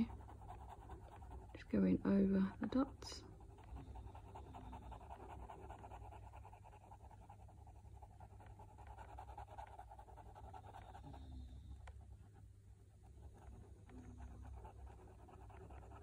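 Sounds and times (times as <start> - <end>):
pen tip scratching on paper: 0.0 - 11.0, 13.3 - 16.0.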